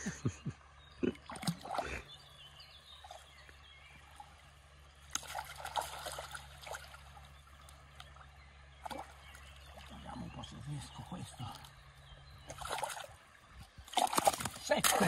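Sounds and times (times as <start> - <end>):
water splashing and sloshing: 1.0 - 15.0.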